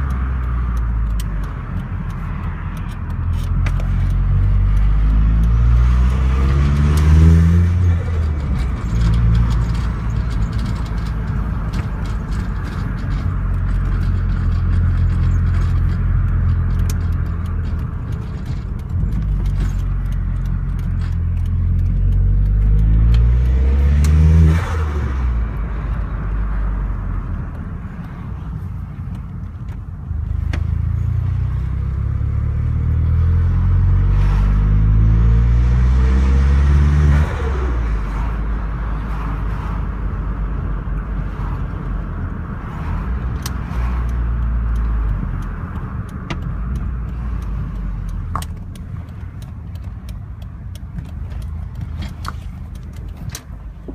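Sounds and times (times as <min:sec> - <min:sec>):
car engine revving: 0:00.0 - 0:53.9
interior clicking and rattling: 0:00.0 - 0:53.9
road noise: 0:00.0 - 0:53.9.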